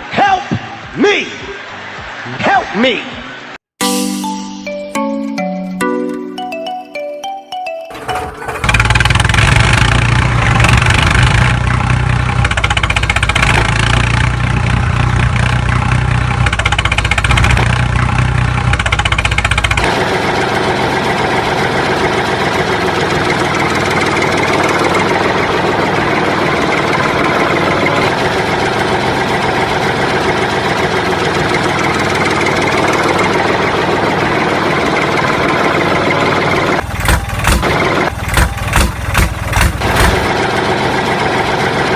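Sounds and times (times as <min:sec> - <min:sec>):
small engine running: 0:08.0 - 0:41.9.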